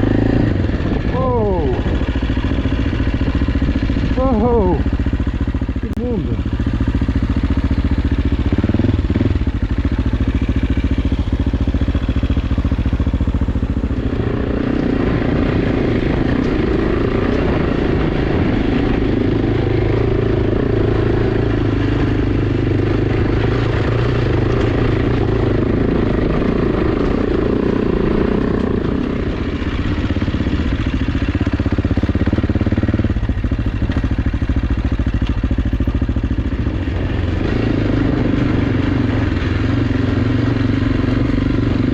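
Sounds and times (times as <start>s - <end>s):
clatter over terrain: 0.0s - 41.9s
motorcycle engine running: 0.0s - 41.9s.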